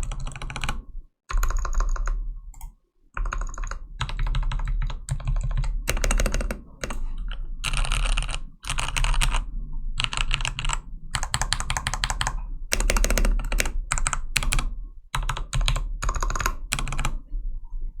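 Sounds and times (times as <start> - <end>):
fast typing on mechanical keyboard: 0.0 - 2.2, 3.2 - 7.0, 7.6 - 9.4, 10.0 - 17.2.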